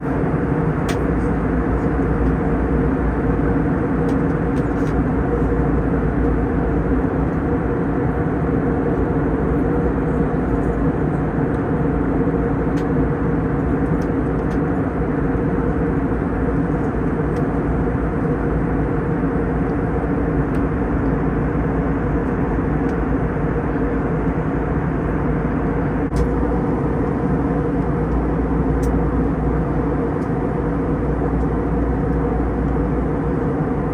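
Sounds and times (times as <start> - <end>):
jet airliner cabin roar: 0.0 - 33.9.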